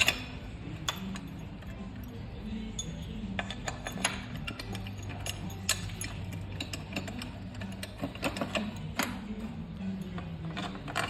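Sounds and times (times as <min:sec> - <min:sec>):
metal tools clinking: 0:00.0 - 0:11.0.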